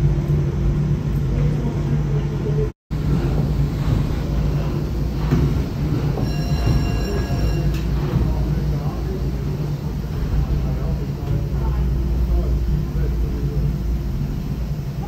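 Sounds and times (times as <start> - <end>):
steam engine rumbling: 0.0 - 15.0.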